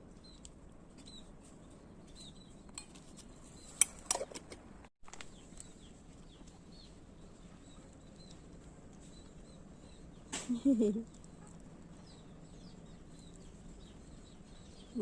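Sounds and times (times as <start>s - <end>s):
birds chirping faintly: 0.0s - 4.4s, 5.1s - 15.0s.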